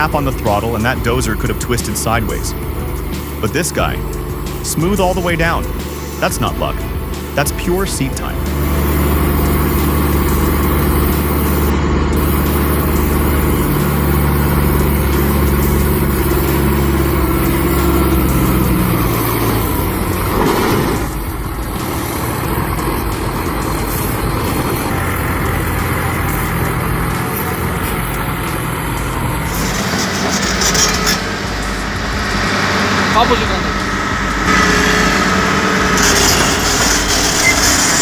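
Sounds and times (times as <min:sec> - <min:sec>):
heavy diesel engine droning: 0:00.0 - 0:38.0
rush of noise: 0:00.0 - 0:38.0.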